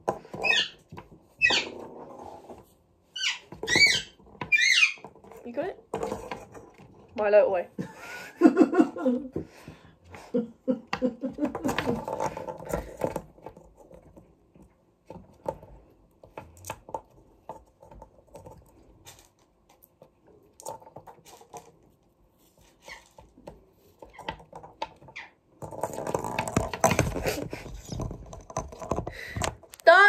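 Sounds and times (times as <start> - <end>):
plastic ball on wooden table: 0.0 - 7.3, 10.9 - 29.9.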